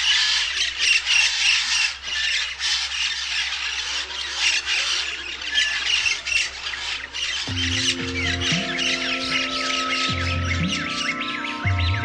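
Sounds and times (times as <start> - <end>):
many birds squawking: 0.0 - 12.0.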